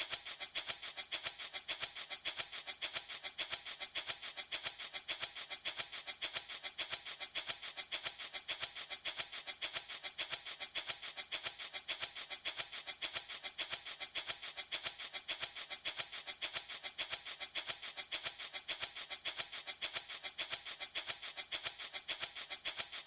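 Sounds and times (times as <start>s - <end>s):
rattle shaken: 0.0s - 23.0s.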